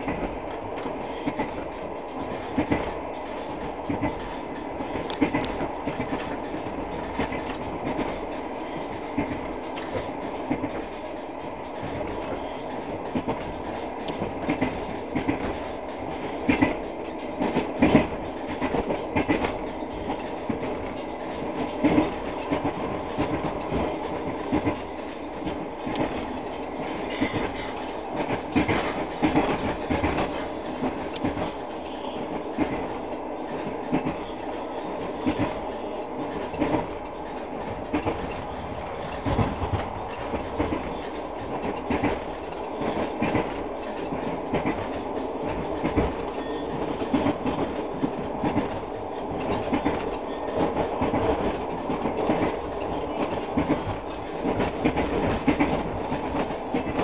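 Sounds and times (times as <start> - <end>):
train running gear rumble: 0.0 - 57.0
wheels clacking over rail joints: 2.2 - 57.0.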